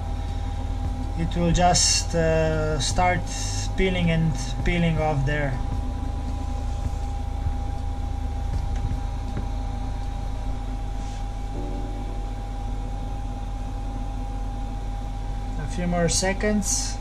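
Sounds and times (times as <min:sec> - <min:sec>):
high whine: 0:00.0 - 0:17.0
low machine hum: 0:00.0 - 0:17.0.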